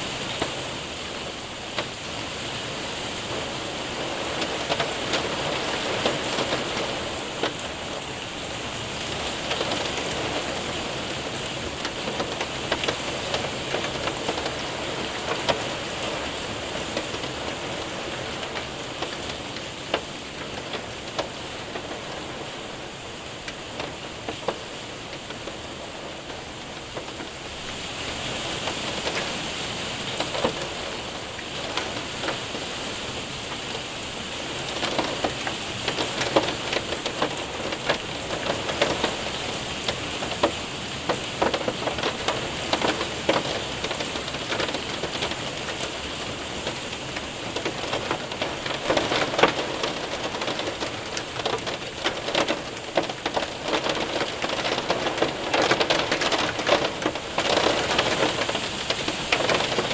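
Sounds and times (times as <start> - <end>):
hailstones ticking: 0.0 - 59.9
rain hissing: 0.0 - 59.9.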